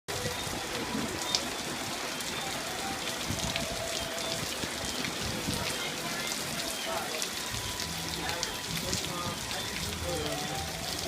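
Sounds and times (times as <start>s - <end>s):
heavy rain falling: 0.1s - 11.0s
raindrops striking close by: 0.1s - 11.0s.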